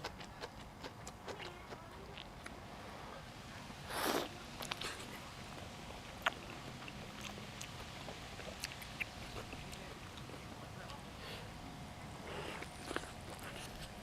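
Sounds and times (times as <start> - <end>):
person chewing food: 0.0 - 2.6, 3.9 - 11.4, 12.2 - 14.0.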